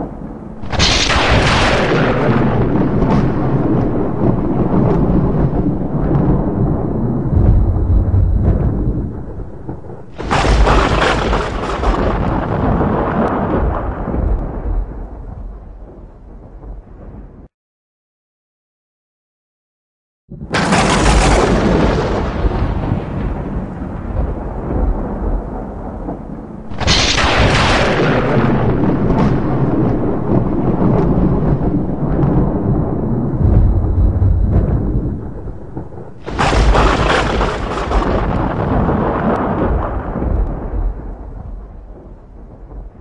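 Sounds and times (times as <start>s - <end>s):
thunder cracks and rumble: 0.0s - 17.5s, 20.3s - 43.0s.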